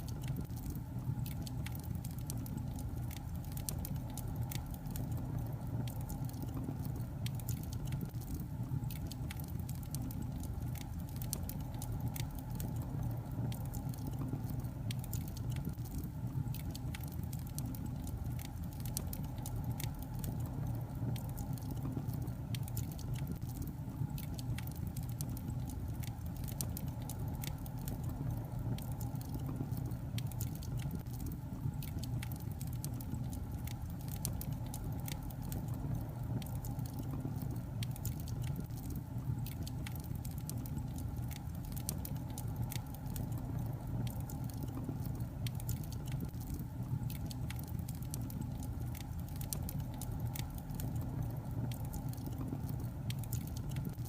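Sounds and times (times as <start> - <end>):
burning logs crackling and popping: 0.0 - 54.0
low rumble of flame: 0.0 - 54.0.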